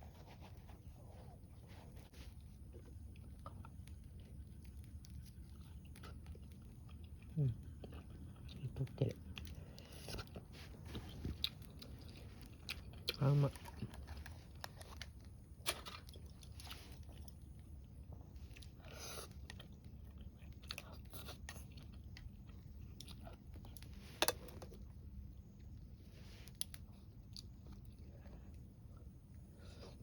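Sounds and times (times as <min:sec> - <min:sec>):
person chewing food: 0:00.1 - 0:30.0.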